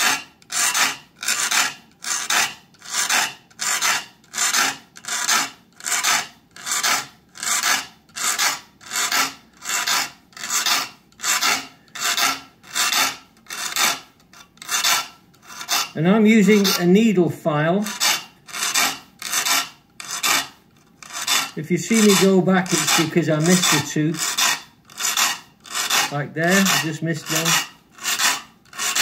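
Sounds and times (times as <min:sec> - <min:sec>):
file strokes on saw teeth: 0:00.0 - 0:17.2, 0:17.8 - 0:29.0.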